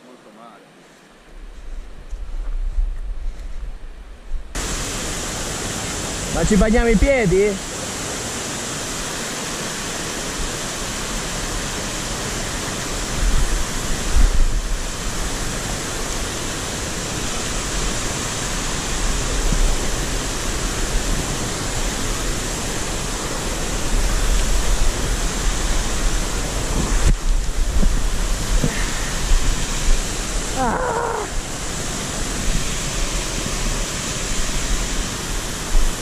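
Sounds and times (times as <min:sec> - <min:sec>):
stream rushing over rocks: 0:04.5 - 0:36.0.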